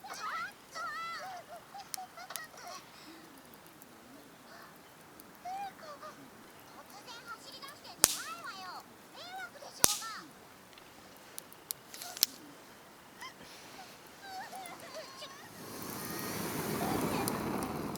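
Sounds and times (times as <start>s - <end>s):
thin chirping: 0.0s - 17.4s
campfire wood cracking: 0.0s - 17.9s.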